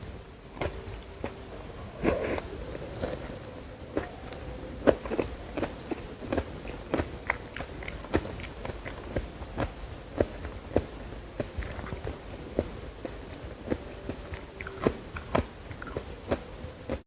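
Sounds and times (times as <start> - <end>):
crunchy chewing: 0.6 - 17.0.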